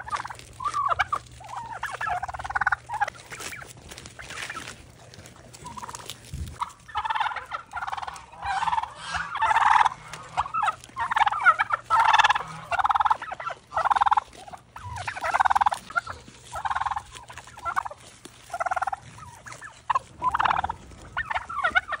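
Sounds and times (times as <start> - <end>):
turkey gobbling: 0.0 - 22.0.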